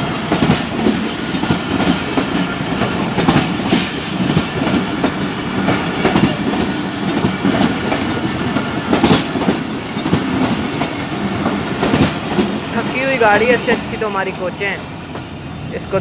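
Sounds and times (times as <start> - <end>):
wheels clicking over rail joints: 0.0 - 14.0
train running gear rumble: 0.0 - 16.0.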